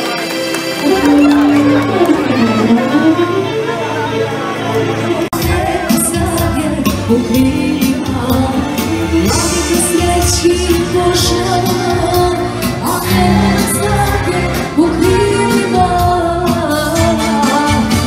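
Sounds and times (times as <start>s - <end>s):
loud party music with singing: 0.0s - 18.0s.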